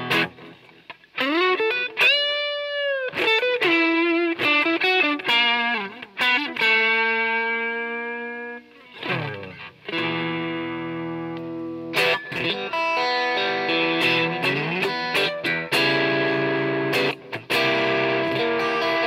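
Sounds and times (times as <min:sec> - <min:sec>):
overdriven electric guitar chords: 0:00.0 - 0:19.0.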